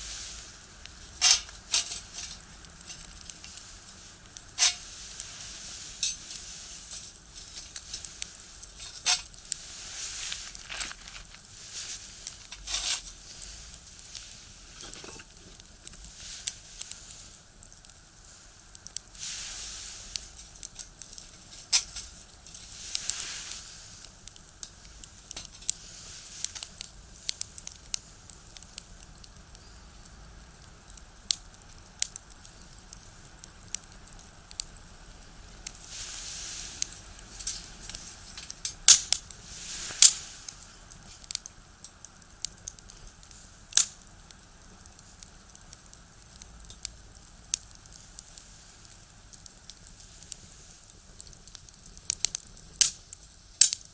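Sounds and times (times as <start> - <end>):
fire hissing: 0.0 - 53.9
firewood crackling and popping: 0.0 - 53.9.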